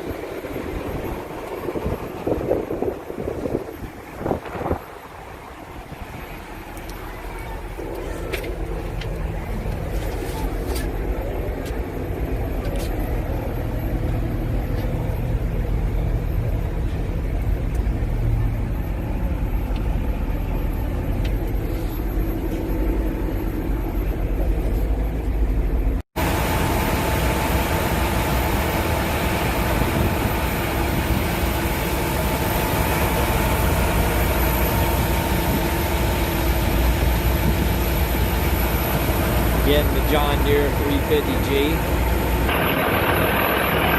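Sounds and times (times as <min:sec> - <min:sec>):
excavator diesel engine running: 0:00.0 - 0:43.9
steady whine: 0:00.0 - 0:43.9.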